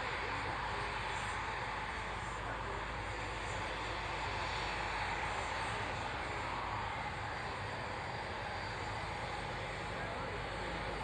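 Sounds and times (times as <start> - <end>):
aircraft engine rushing: 0.0 - 11.0.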